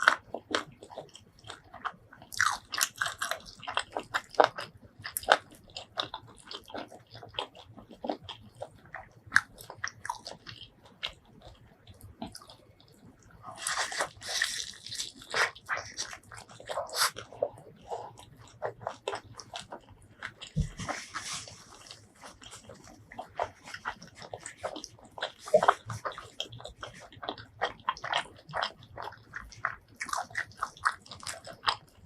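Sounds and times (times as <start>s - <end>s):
crunchy bites and chewing: 0.0s - 32.0s.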